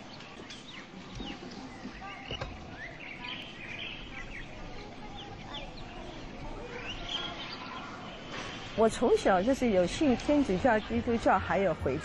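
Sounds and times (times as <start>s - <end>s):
birds chirping and calling: 0.0s - 11.7s
outdoor background noise: 0.0s - 12.0s.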